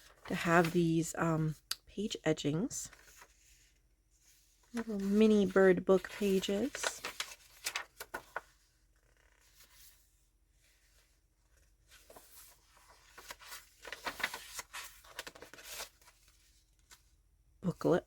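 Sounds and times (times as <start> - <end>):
paper pages rustling: 0.0 - 1.2, 2.9 - 17.2.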